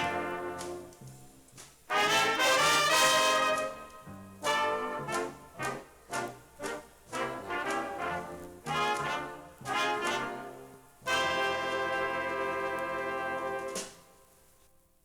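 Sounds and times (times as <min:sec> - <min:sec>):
brass section playing chords: 0:00.0 - 0:01.0, 0:01.9 - 0:13.9.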